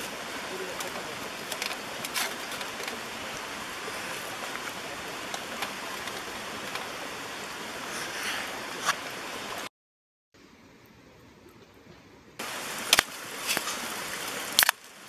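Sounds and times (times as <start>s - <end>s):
outdoor ambience hiss: 0.0s - 9.7s, 10.4s - 15.0s.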